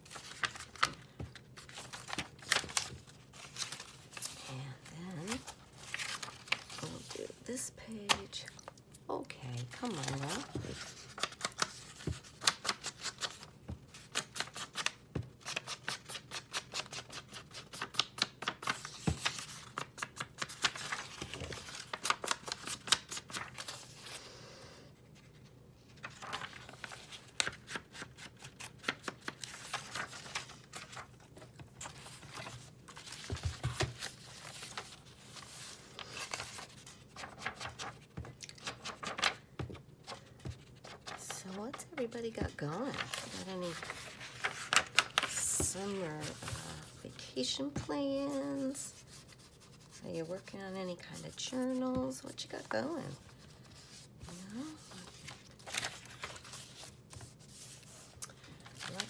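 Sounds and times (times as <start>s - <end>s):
book pages rustling: 0.0s - 24.2s, 25.0s - 59.0s.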